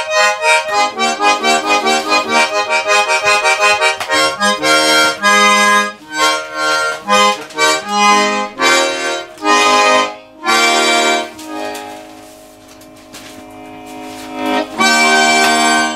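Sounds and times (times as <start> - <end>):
accordion playing chords: 0.0 - 15.9.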